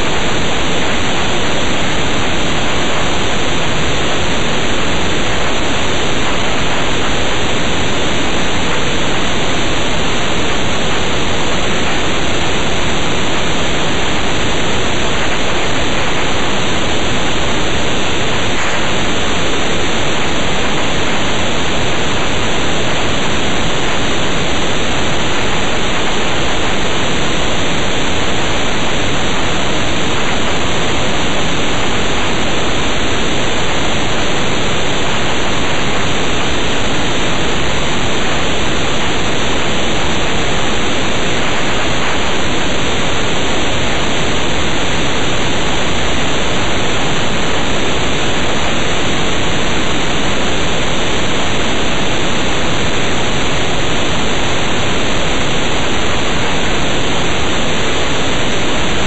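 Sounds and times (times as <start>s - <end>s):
steady static hiss: 0.0s - 59.0s.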